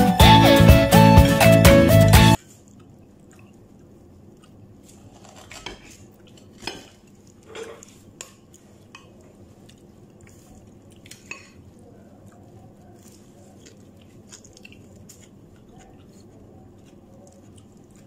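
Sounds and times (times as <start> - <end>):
quiet chewing: 2.4 - 18.0.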